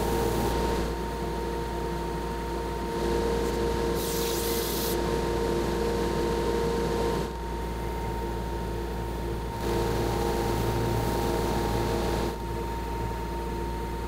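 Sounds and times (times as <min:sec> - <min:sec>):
shop machinery hum: 0:00.0 - 0:14.0.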